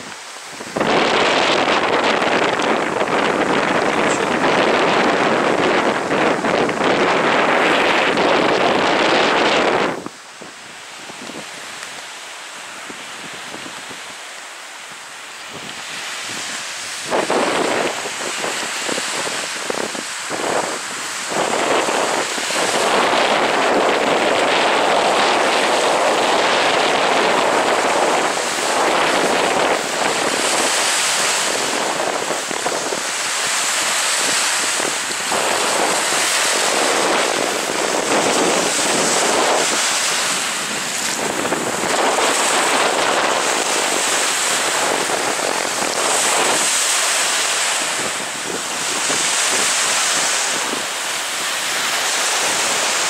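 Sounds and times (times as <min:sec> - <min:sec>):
waves washing onto beach: 0:00.0 - 0:53.0
wind buffeting microphone: 0:00.0 - 0:53.0.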